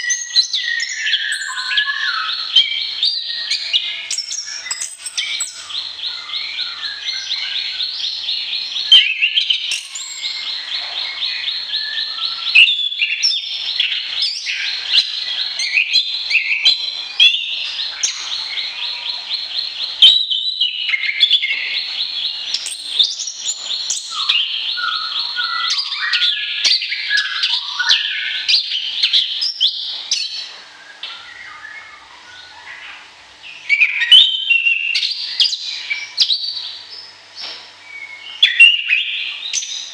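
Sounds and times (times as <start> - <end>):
songbird trilling and chirping: 0.0 - 39.9.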